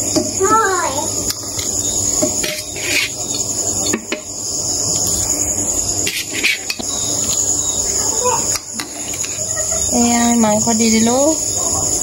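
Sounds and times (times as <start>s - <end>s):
crickets chirring: 0.0s - 12.0s
water boiling in a pan: 0.0s - 12.0s.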